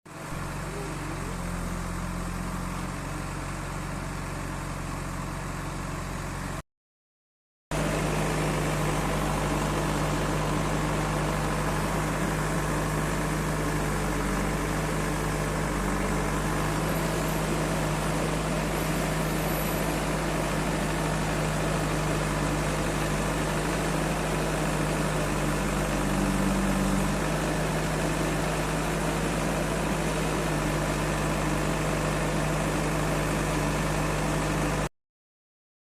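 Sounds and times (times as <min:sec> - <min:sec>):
diesel engine droning: 0:00.1 - 0:06.6, 0:07.7 - 0:34.9.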